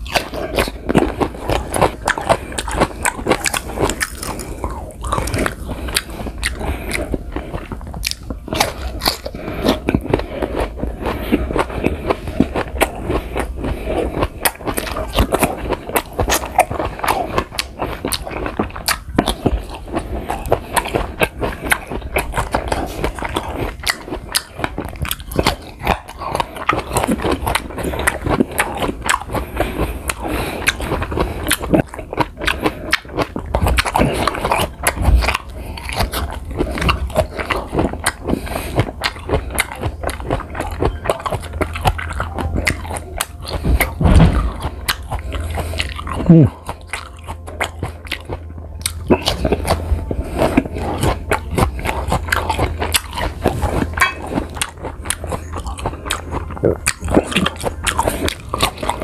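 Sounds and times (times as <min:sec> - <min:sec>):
crunching crisp fruit: 0:00.0 - 0:59.0.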